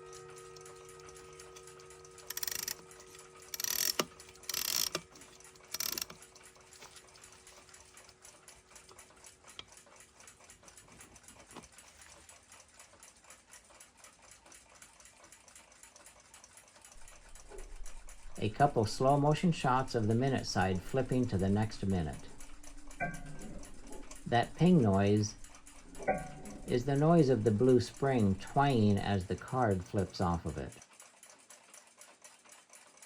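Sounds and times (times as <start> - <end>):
clock ticking fast: 0.0 - 33.0.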